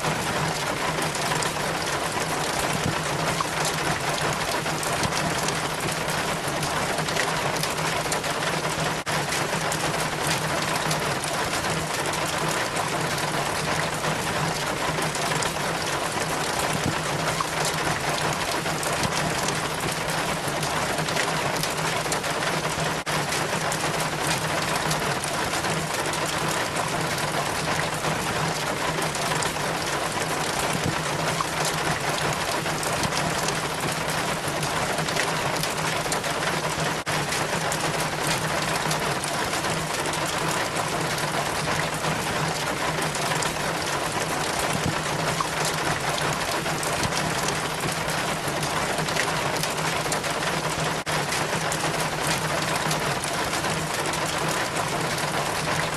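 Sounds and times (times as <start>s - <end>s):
water trickling down rain chain: 0.0s - 55.9s.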